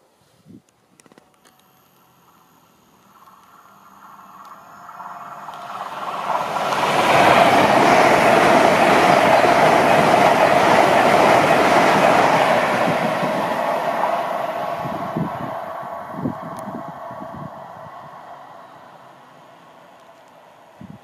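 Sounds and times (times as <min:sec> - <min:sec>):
train passing at speed: 0:02.2 - 0:21.0.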